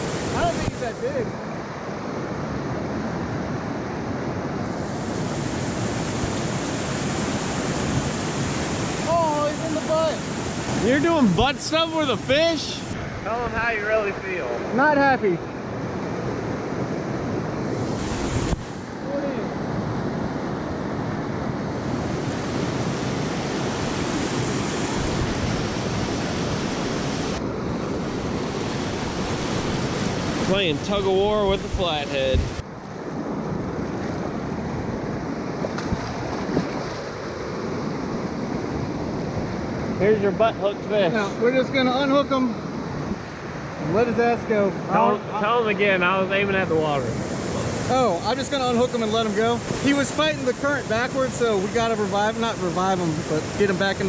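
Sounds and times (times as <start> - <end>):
rapids roaring over rocks: 0.0 - 54.0.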